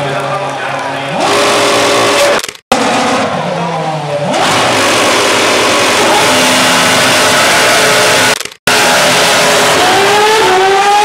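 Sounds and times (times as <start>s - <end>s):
racing car engine revving: 1.1s - 11.0s.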